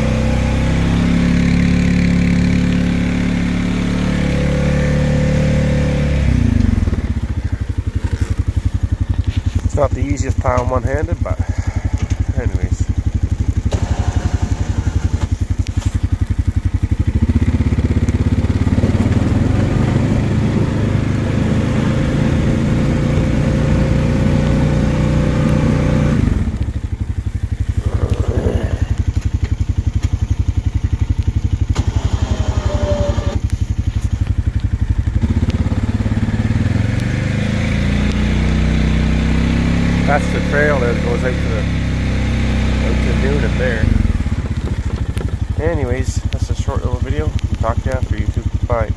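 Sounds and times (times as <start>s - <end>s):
atv engine running under load: 0.0s - 48.9s.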